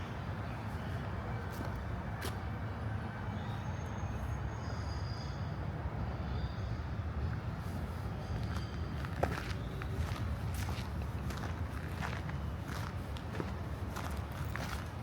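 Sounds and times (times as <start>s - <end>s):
distant city traffic rumble: 0.0s - 15.0s.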